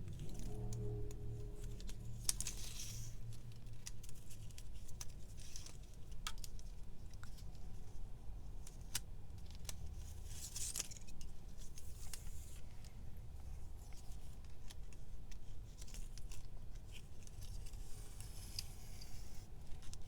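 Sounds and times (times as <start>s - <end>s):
label tape rustling: 0.0s - 7.9s, 8.6s - 20.0s.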